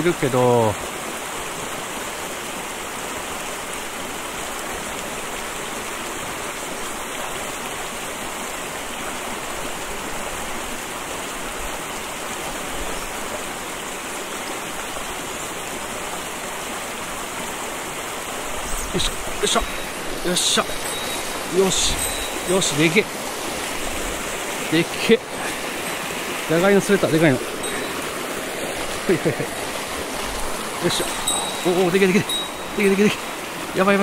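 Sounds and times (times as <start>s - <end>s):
mountain stream flowing: 0.0s - 34.0s.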